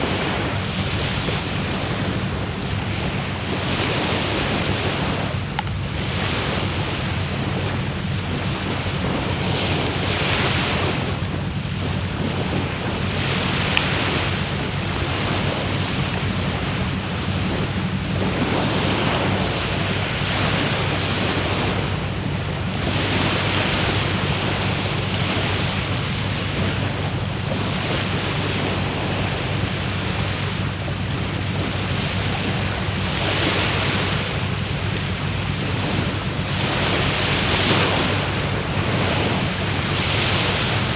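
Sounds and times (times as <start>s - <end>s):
faint fire crackles: 0.0s - 37.5s
wood fire hissing: 0.0s - 40.9s.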